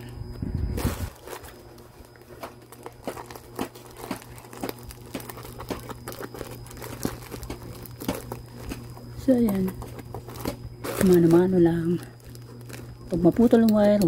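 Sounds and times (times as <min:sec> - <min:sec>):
steady low hum: 0:00.0 - 0:14.0
packaging crinkling and tearing: 0:00.8 - 0:14.0.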